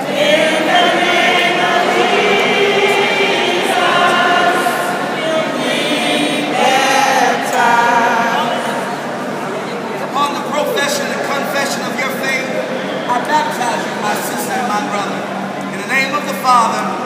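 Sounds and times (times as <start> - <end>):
congregation singing a hymn: 0.0 - 17.0.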